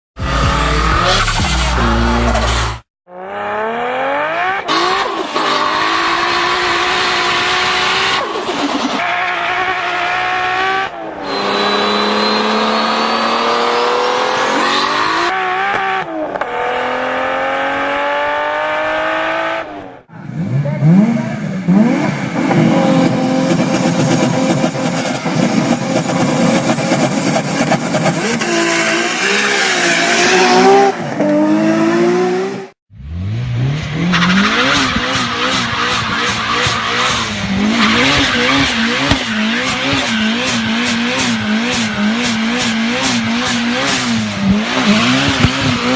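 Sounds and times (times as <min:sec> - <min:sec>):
turbocharged car engine revving: 0:00.2 - 0:45.9.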